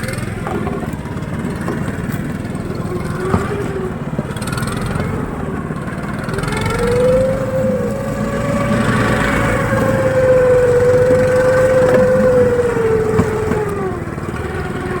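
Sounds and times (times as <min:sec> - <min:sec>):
single-cylinder engine under load: 0:00.0 - 0:15.0.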